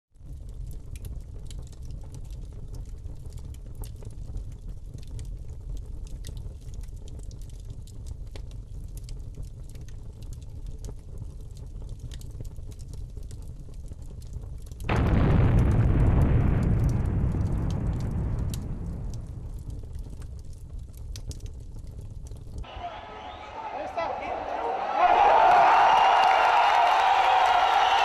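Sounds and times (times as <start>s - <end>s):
low rumble of flames: 0.2s - 22.6s
fire crackles and pops: 0.2s - 22.7s, 25.4s - 28.0s.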